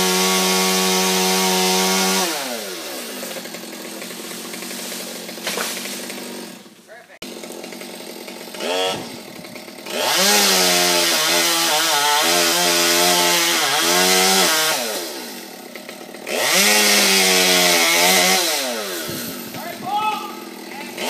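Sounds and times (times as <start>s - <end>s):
chainsaw revving and cutting wood: 0.0s - 21.0s.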